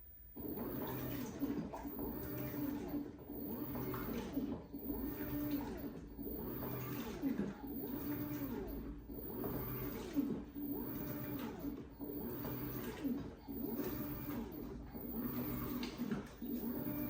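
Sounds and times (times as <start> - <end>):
washing machine agitating: 0.3 - 17.0.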